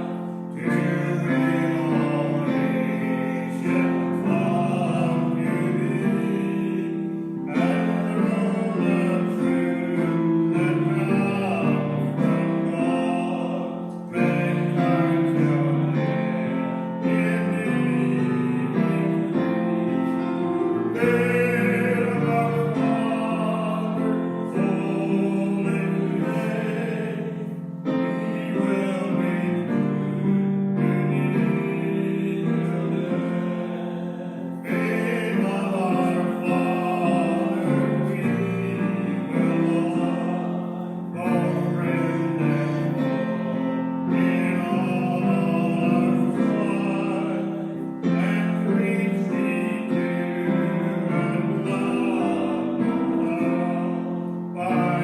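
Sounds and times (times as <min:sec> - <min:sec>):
people singing a hymn: 0:00.0 - 0:55.0
piano accompaniment: 0:00.0 - 0:55.0.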